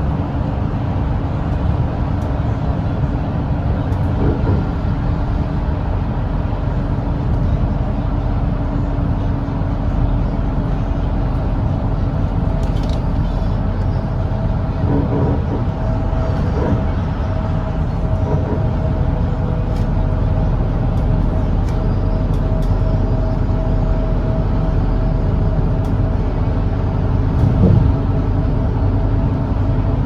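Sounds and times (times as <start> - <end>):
bus diesel engine rumble: 0.0 - 30.0
road noise: 0.0 - 30.0.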